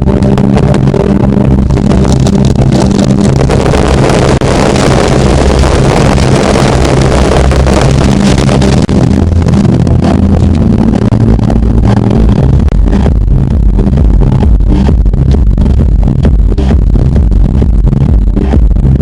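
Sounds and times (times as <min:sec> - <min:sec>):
firework low rumble: 0:00.0 - 0:19.0.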